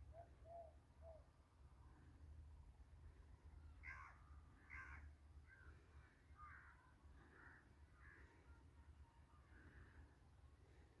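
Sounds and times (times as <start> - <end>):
faint bird calls: 0.0 - 2.1, 3.7 - 11.0.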